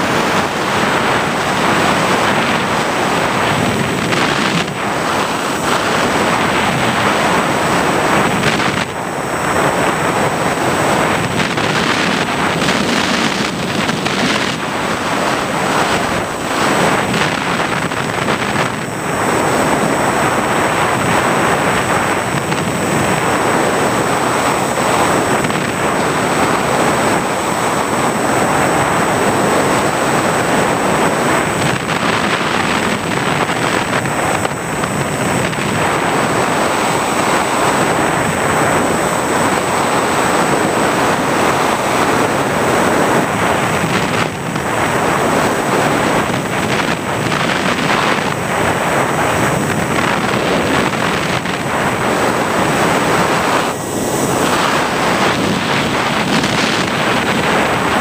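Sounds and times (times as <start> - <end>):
thin high whine: 0.0 - 58.0
wind hiss on microphone: 0.0 - 58.0.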